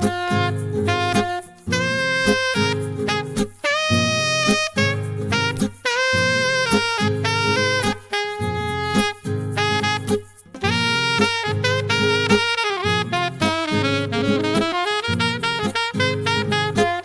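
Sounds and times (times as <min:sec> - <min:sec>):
saxophone melody: 0:00.0 - 0:17.0.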